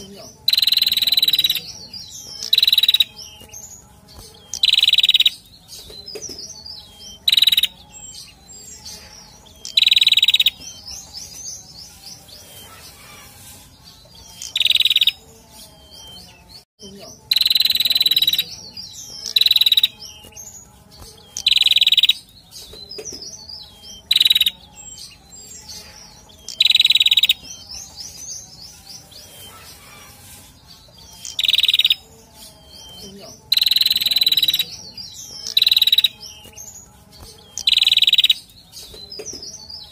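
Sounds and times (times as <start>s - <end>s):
bird ringing calls: 0.4s - 3.8s, 4.4s - 13.4s, 14.2s - 16.3s, 17.3s - 30.3s, 31.0s - 36.7s, 37.3s - 39.9s.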